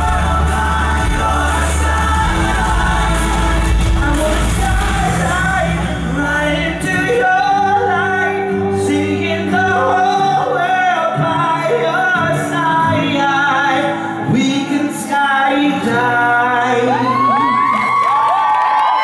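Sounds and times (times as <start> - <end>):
amplified musical accompaniment: 0.0 - 17.8
male vocal group singing: 0.0 - 17.8.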